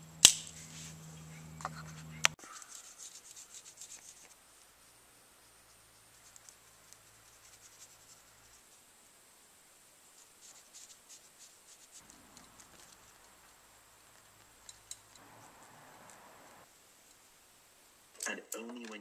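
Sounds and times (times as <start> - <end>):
faint scratching: 0.5 - 17.4.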